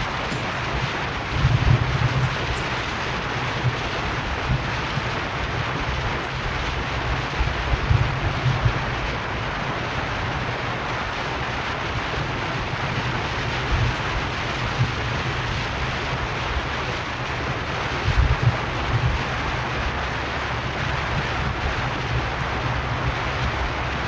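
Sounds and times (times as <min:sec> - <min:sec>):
road and tyre noise: 0:00.0 - 0:24.0
wind buffeting on microphone: 0:00.0 - 0:24.0.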